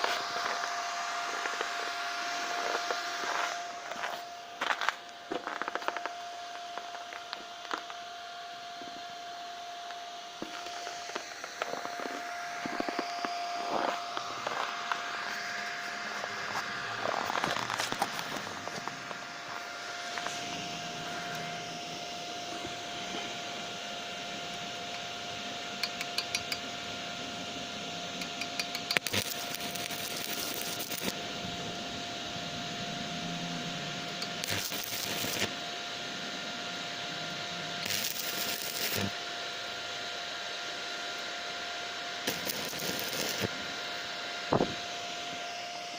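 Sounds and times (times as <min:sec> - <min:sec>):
welding arc hissing and crackling: 0:00.0 - 0:08.0, 0:09.8 - 0:27.4, 0:28.1 - 0:32.5, 0:33.1 - 0:40.2, 0:41.1 - 0:44.8.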